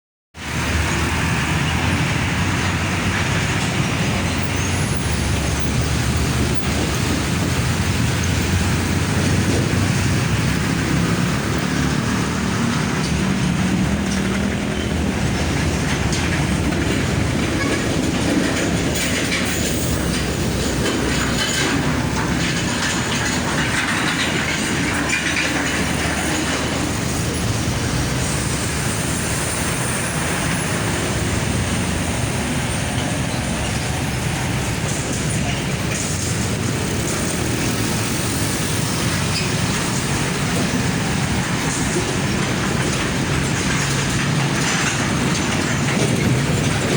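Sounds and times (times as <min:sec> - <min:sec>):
heavy trucks passing: 0:00.4 - 0:46.9.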